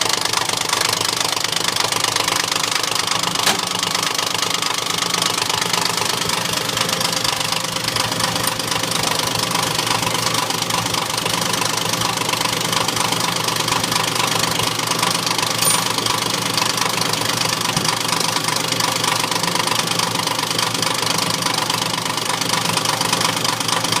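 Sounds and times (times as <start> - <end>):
fuel injection pump clattering: 0.0 - 24.0.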